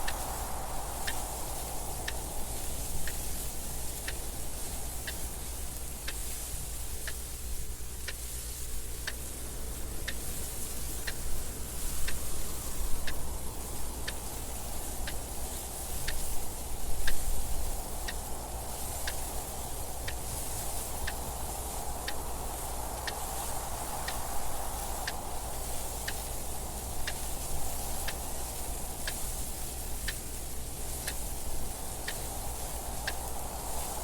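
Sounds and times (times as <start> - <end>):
clock ticking: 0.0 - 6.3, 7.0 - 7.4, 10.0 - 34.0
wind noise: 0.0 - 34.0.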